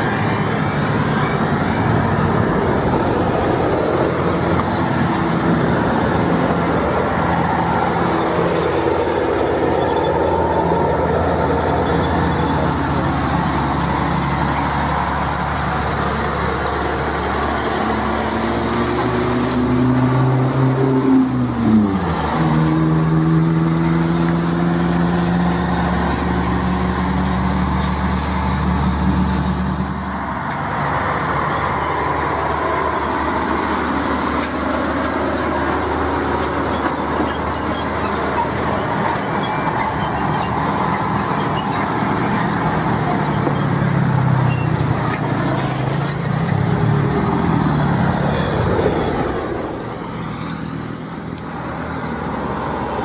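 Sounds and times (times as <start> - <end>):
truck engine hum: 0.0 - 53.0
tyre and road roar: 0.0 - 53.0.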